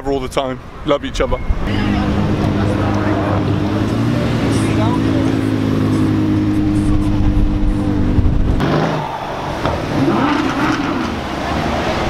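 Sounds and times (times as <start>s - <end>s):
car engine running: 1.7s - 12.0s
suv engine rising and falling: 1.7s - 12.0s.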